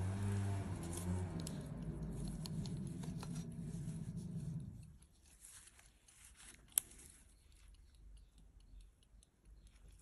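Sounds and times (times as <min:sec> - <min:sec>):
gloved hands rubbing and rustling: 0:00.0 - 0:10.0.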